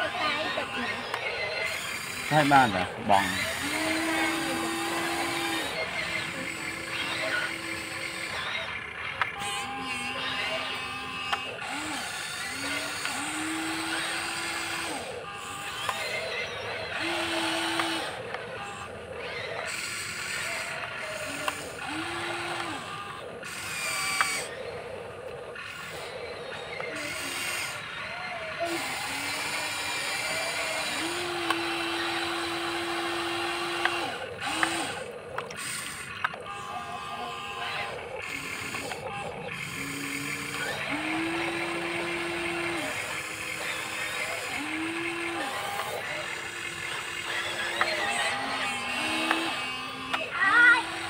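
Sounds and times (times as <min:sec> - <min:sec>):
toy excavator motors whirring: 0:00.0 - 0:51.0.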